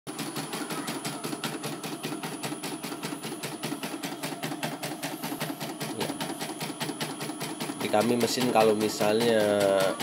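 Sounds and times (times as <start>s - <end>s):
machine motor hum: 0.1s - 10.0s.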